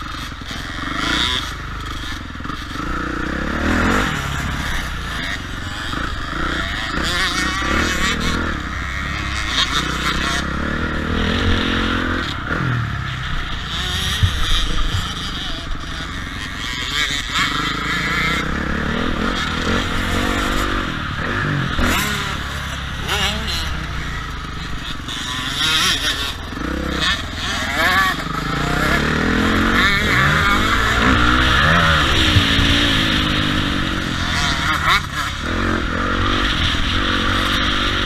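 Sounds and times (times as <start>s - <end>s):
dirt bike engines revving: 0.0s - 38.0s.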